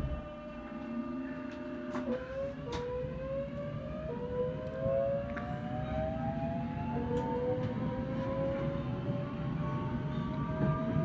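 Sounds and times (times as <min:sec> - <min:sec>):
electric train motors whining: 0:00.0 - 0:11.0
low train rumble: 0:00.0 - 0:11.0.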